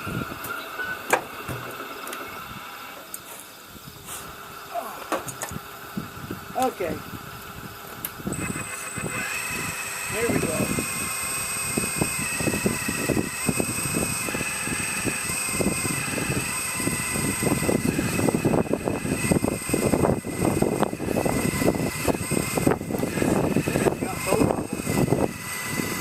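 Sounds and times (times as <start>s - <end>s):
hydraulic pump whining: 0.0s - 26.0s.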